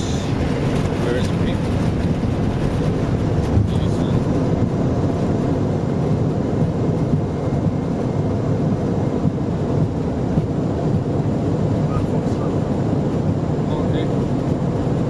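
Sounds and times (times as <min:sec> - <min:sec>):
aircraft engines: 0:00.0 - 0:15.0.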